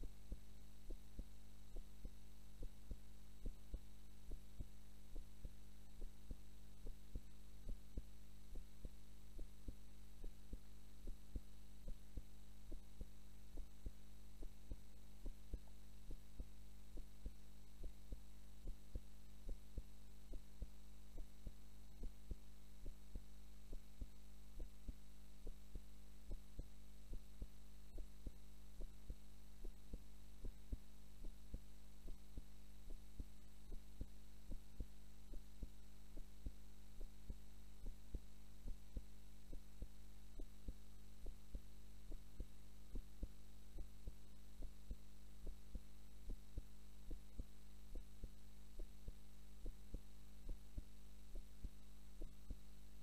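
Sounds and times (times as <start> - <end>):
heartbeat: 0.0 - 53.0
steady low hum: 0.0 - 53.0.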